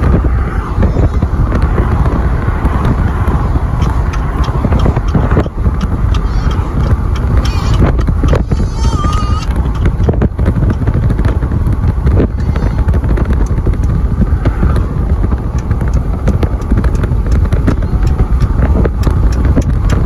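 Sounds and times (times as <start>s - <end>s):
loud steady rumble: 0.0s - 20.0s
wind buffeting microphone: 0.0s - 20.0s.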